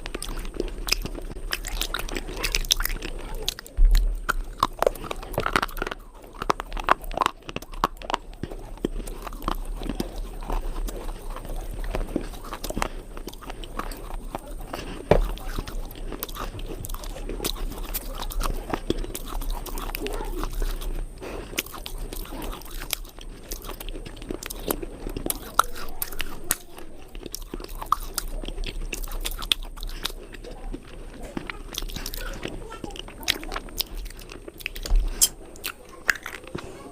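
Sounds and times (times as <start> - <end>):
crumbly cubes crunching: 0.0 - 36.9.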